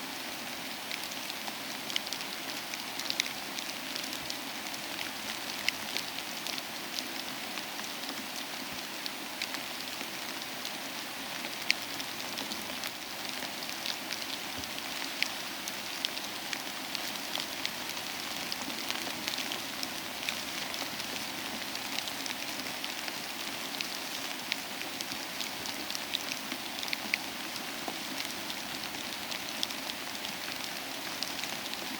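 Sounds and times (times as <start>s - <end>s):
soft steady rain: 0.0s - 31.9s.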